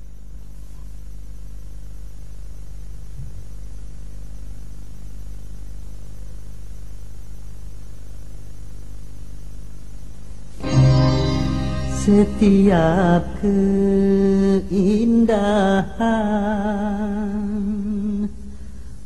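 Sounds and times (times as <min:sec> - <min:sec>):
constant hiss: 0:00.0 - 0:19.0
steady electrical hum: 0:00.0 - 0:19.0.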